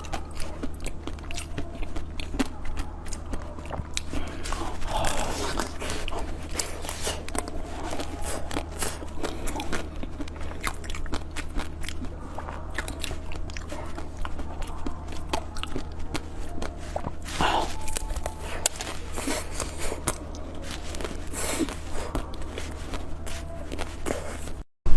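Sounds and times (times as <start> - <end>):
person chewing crunchy food: 0.0 - 24.6
steady low hum: 0.0 - 24.9.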